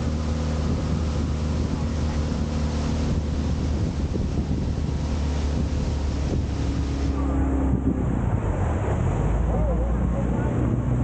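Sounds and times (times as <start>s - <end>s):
boat motor humming: 0.0s - 11.0s
water wash: 0.0s - 11.0s
wind buffeting microphone: 0.0s - 11.0s.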